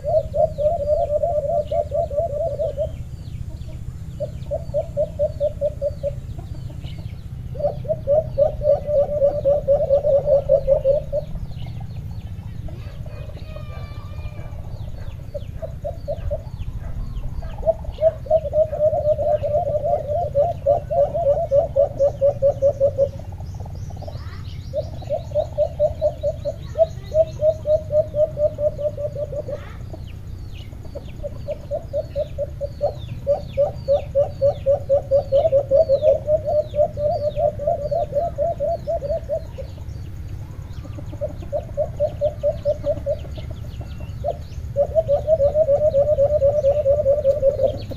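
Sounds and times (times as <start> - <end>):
doves cooing: 0.0 - 47.9
small birds chirping: 0.0 - 47.9.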